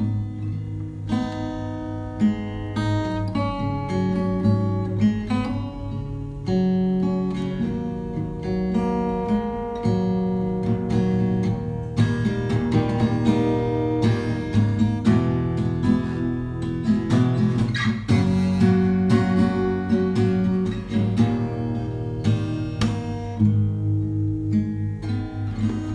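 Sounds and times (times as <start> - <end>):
acoustic guitar music: 0.0 - 25.9.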